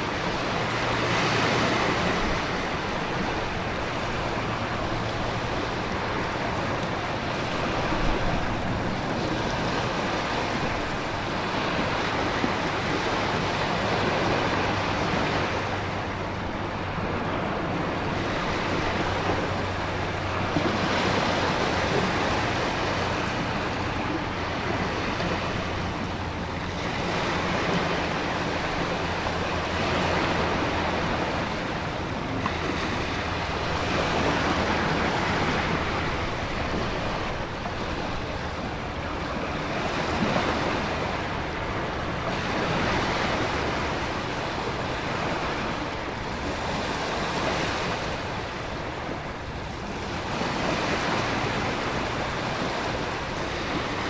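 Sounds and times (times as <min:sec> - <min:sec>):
ocean surf: 0:00.0 - 0:54.0
wind: 0:00.0 - 0:54.0.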